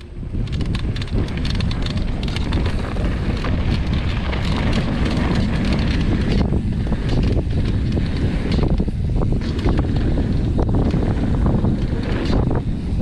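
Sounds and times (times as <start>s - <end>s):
bike rattling over rough dirt: 0.0s - 13.0s
wind rush on microphone: 0.0s - 13.0s.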